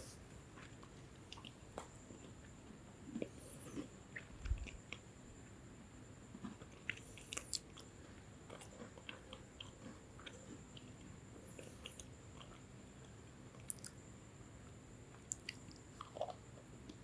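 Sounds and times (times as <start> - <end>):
chewing crunchy biscuits: 0.0 - 17.0.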